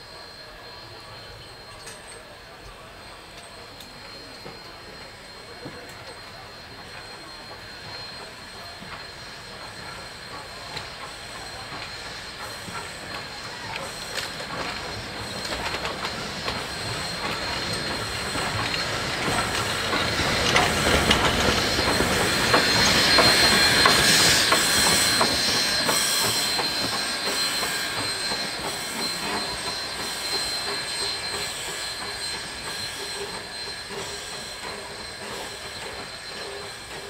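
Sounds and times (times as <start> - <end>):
high steady squeal: 0.0 - 37.0.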